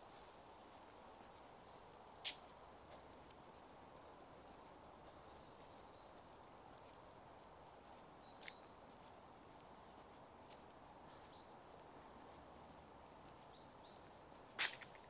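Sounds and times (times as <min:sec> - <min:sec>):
songbird chirps: 0:00.0 - 0:15.0.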